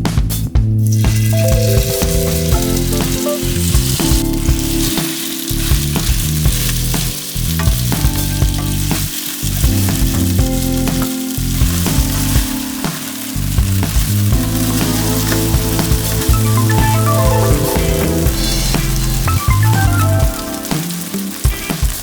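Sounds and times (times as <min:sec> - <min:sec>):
chicken sizzling in a pan: 0:00.8 - 0:22.0.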